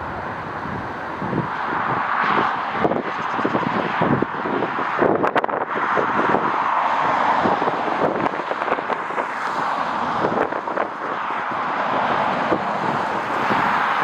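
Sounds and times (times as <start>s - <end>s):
airliner jet engine: 0.0s - 14.0s
wind buffeting microphone: 0.0s - 14.0s.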